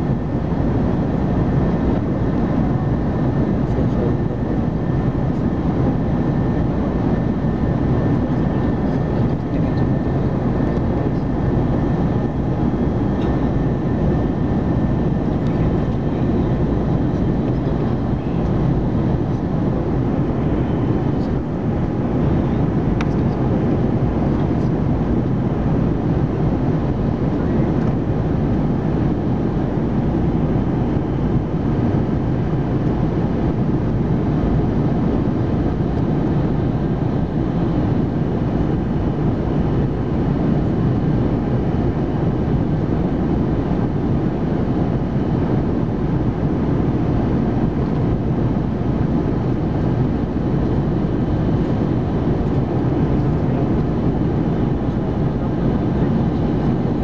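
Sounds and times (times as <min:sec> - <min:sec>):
jet engine and airflow cabin noise: 0:00.0 - 0:57.0.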